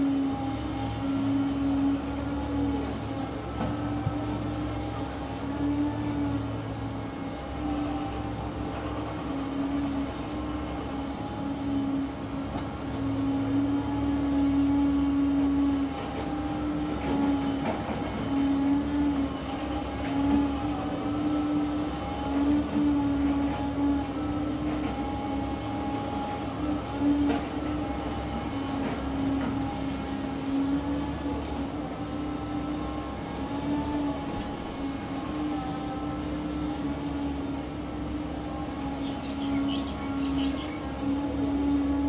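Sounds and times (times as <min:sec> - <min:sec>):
excavator engine and hydraulics humming: 0:00.0 - 0:42.0.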